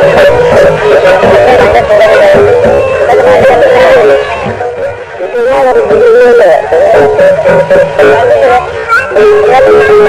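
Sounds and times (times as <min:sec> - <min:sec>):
devotional song with music: 0:00.0 - 0:10.0.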